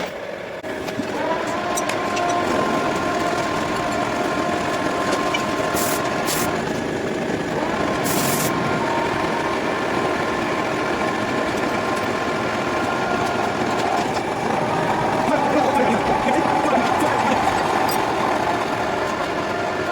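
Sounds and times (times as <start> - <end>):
machine humming: 0.6 - 19.9.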